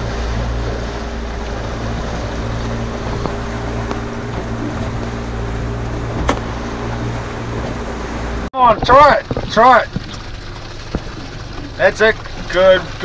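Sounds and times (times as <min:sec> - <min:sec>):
outboard engine running: 0:00.0 - 0:13.0
water noise: 0:00.0 - 0:13.0
wind: 0:00.0 - 0:13.0.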